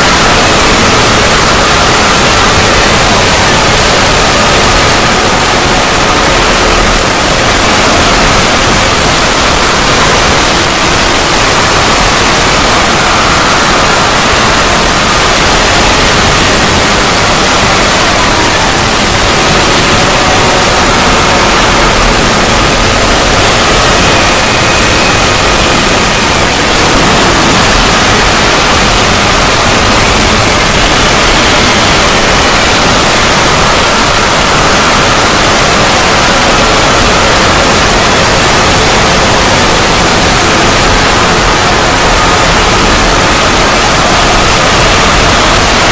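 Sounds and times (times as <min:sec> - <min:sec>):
loud static hiss: 0:00.0 - 0:45.9.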